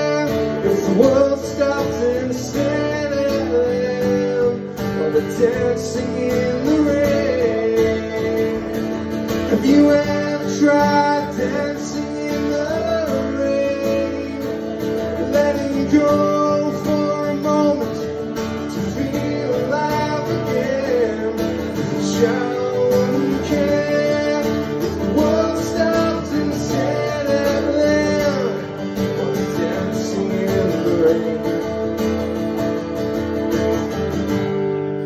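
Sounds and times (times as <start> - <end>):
man singing: 0.0 - 32.4
acoustic guitar strumming: 0.0 - 35.0.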